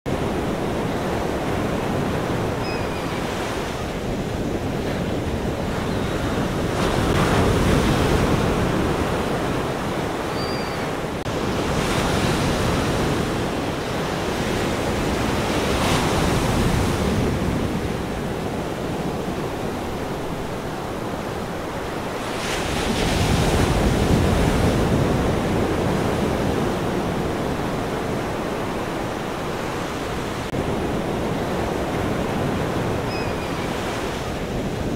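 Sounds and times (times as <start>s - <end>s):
ocean waves breaking: 0.1s - 34.9s.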